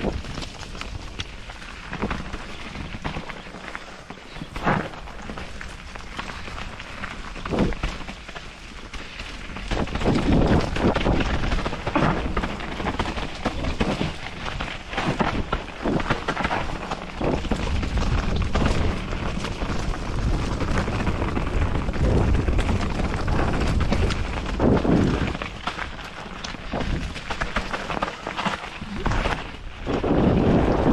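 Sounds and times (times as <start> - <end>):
bike rattling over bumps: 0.0 - 30.9
bike tyres rolling over mud: 0.0 - 30.9.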